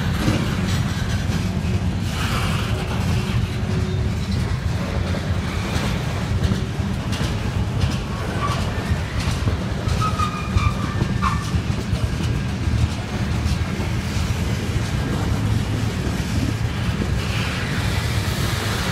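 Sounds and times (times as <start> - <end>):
freight train wheels rumbling: 0.0 - 18.9.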